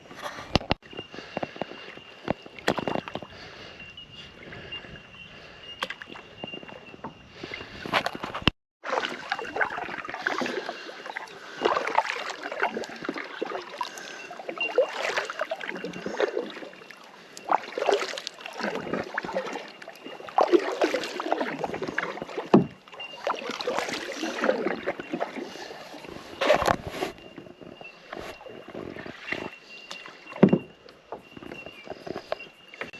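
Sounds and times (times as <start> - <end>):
paddle splashing water: 0.2 - 32.9.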